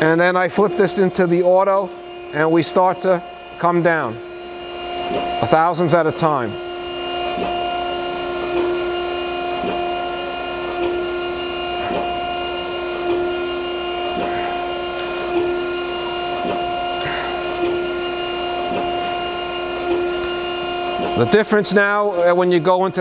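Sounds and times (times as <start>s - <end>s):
grinder hum: 0.0s - 23.0s.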